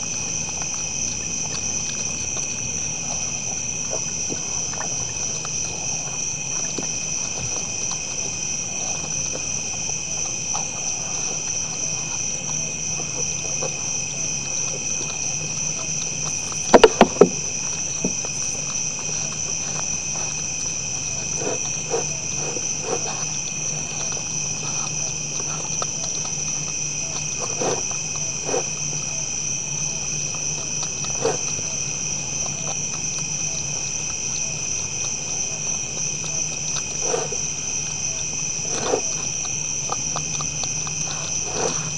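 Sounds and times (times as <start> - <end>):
faint clicks of feeding deer: 0.0 - 41.9
night insects chirping: 0.0 - 41.9.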